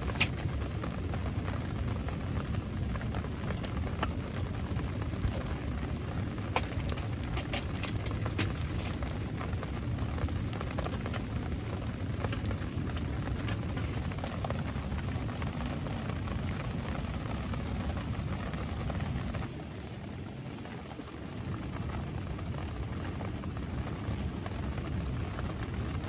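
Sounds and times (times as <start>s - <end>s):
rain drop ticks: 0.0s - 26.0s
steady rain falling: 0.0s - 26.0s.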